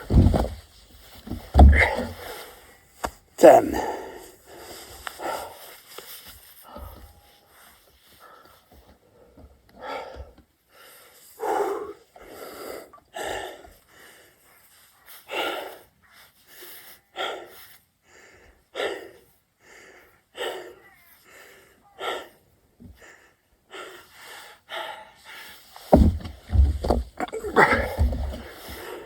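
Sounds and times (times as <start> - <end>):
man breathing hard: 3.6 - 29.0.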